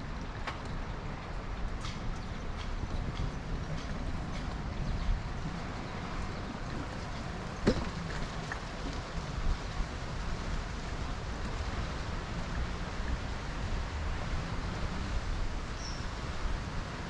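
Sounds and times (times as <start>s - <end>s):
bicycle tyres on road: 0.0s - 17.0s
city traffic: 0.0s - 17.0s
wind on microphone: 0.0s - 17.0s.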